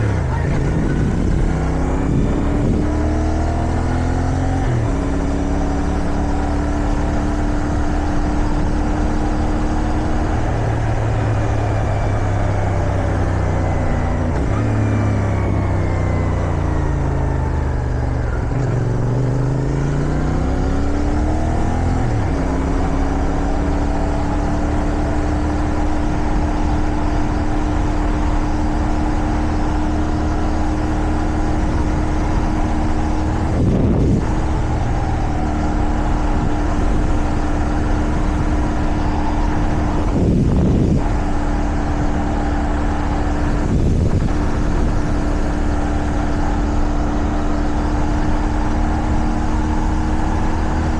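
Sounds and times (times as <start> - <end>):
wind noise: 0.0 - 16.9, 20.6 - 50.9
motorcycle engine: 0.0 - 50.9.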